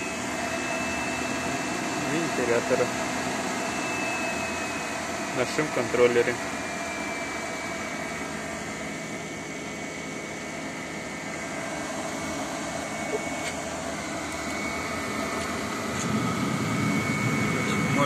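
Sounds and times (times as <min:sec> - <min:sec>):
blower fan whirring: 0:00.0 - 0:18.0.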